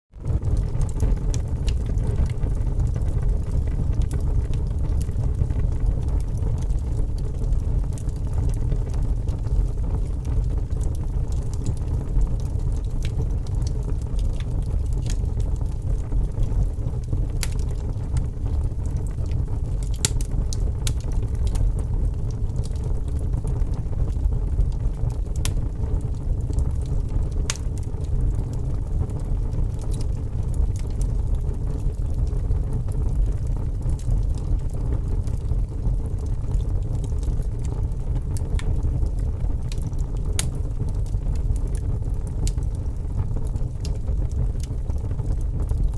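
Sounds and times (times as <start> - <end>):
burning wood crackling: 0.2 - 45.9
flame rumbling: 0.2 - 45.9.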